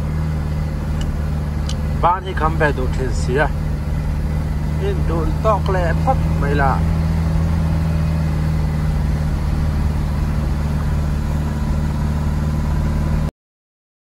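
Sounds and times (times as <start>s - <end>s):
vehicle engine and road noise: 0.0s - 13.3s.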